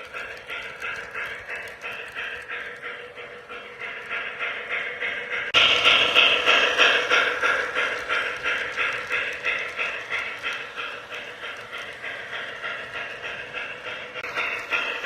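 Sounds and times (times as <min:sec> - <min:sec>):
model steam locomotive chuffing: 0:00.0 - 0:15.0.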